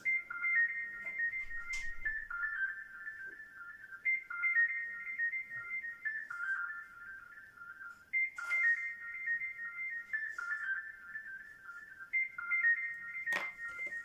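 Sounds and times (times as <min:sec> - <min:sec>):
electronic ringtone-like melody: 0:00.0 - 0:14.0.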